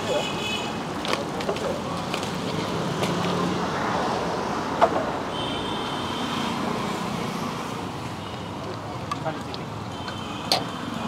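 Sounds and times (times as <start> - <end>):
steady traffic: 0.0 - 11.0.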